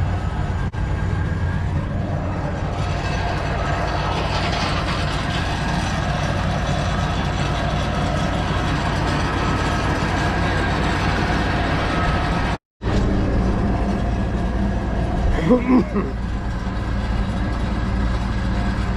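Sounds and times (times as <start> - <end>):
combine harvester engine drone: 0.0 - 18.9.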